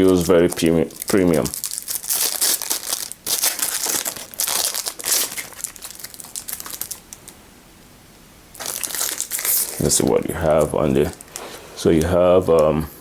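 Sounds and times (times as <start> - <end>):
plastic packaging crinkling: 0.0 - 7.4, 8.5 - 12.7.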